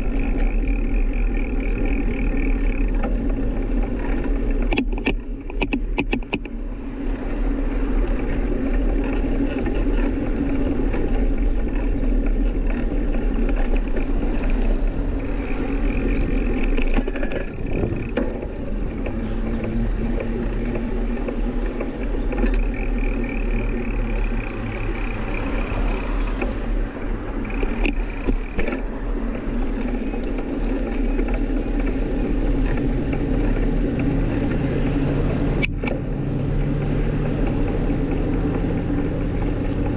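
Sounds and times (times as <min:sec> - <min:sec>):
bicycle road and wind noise: 0:00.0 - 0:39.9.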